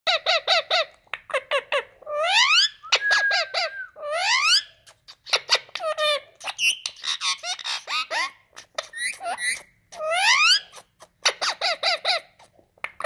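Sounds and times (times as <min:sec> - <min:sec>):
parakeet chirping: 0:00.1 - 0:12.5
parakeet squawking: 0:00.1 - 0:12.5.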